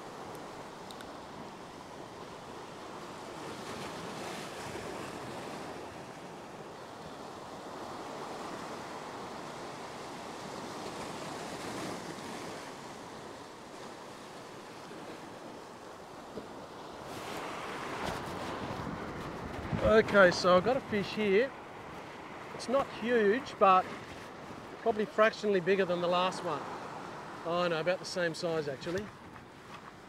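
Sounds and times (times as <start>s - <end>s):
surf washing over rocks: 0.0s - 30.0s.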